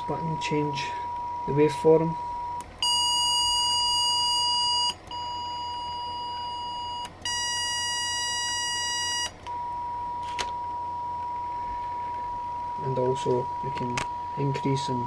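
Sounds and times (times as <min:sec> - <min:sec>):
electronic waveform tone: 0:00.0 - 0:15.0.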